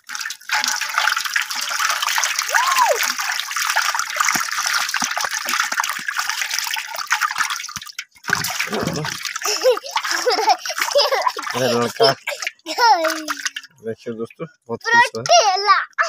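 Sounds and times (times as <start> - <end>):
water splashing into a metal basin: 0.0 - 13.9
fish thrashing in water: 0.1 - 13.8.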